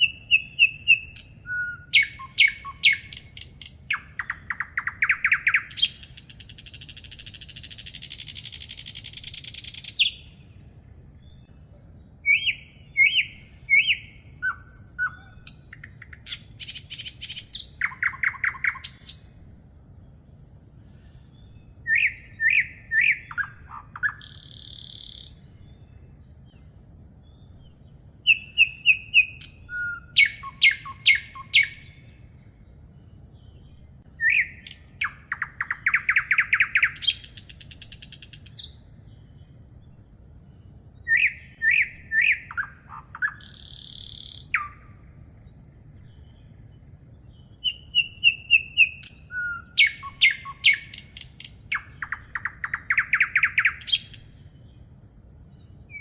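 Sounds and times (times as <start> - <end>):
faint low rumble: 0.0 - 53.0, 53.8 - 56.0
songbirds chirping and whistling: 0.0 - 56.0.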